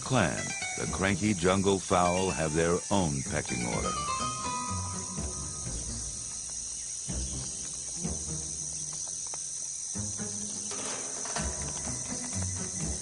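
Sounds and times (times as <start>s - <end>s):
insects trilling: 0.0s - 13.0s
low background music: 0.0s - 13.0s.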